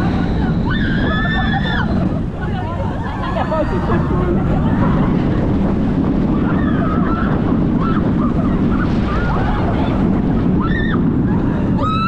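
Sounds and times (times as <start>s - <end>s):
roller coaster train rumbling: 0.0s - 12.0s
wind on microphone: 0.0s - 12.0s
riders shouting and screaming: 0.1s - 5.4s, 6.2s - 12.0s.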